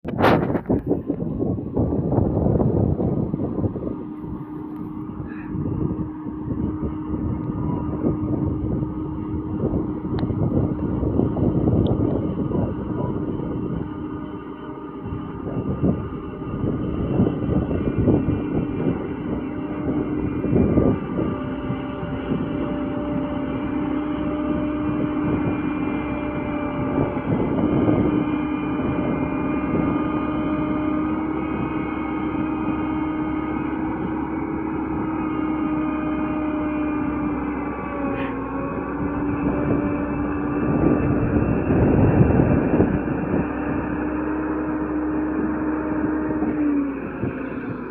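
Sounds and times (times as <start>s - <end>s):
engine rumbling surges: 0.0s - 47.9s
road roller engine running: 0.0s - 47.9s.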